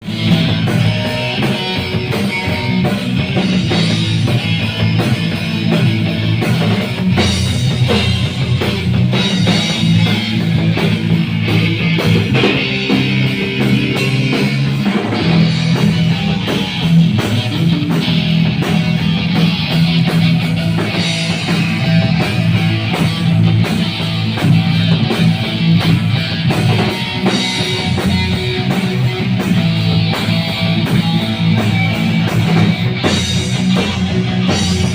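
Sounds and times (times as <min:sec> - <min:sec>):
rock band playing: 0:00.0 - 0:34.9.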